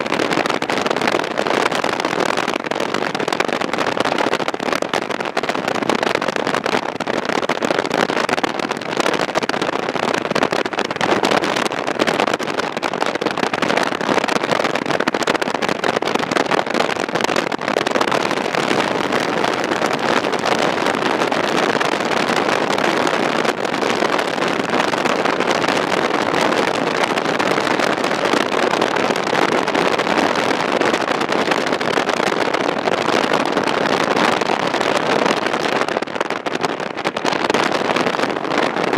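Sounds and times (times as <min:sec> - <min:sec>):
tyre and wind noise: 0:00.0 - 0:38.9.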